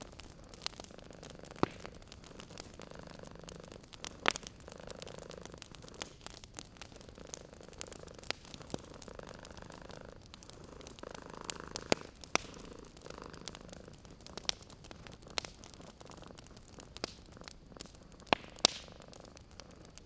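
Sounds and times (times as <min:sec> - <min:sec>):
cat purring: 0:00.0 - 0:20.0
fireplace pops and crackles: 0:00.0 - 0:20.0.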